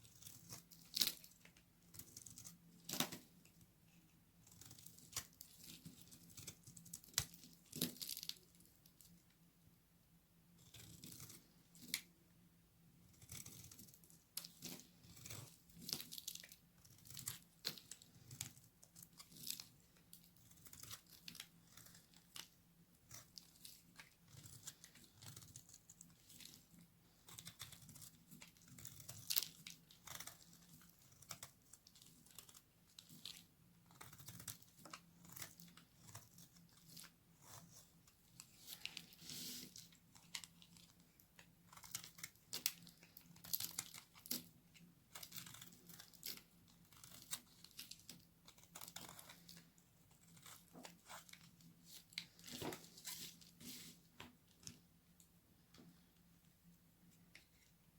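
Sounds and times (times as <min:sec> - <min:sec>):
knife cutting dry soap crackling: 0:00.0 - 0:09.2, 0:10.6 - 0:12.2, 0:13.0 - 0:55.3.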